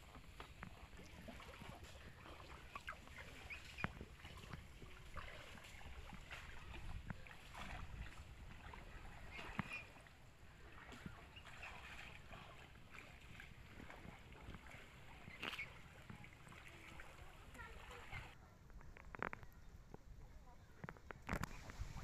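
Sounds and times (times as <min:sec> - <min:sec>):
faint lapping of shallow water: 0:00.0 - 0:22.0.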